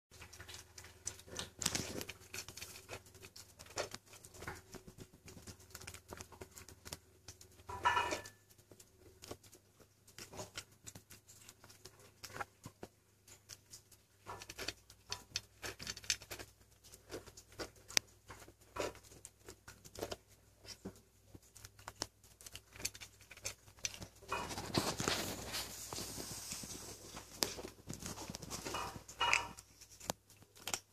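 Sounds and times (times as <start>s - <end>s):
kitten crunching dry kibble: 0.1s - 30.9s.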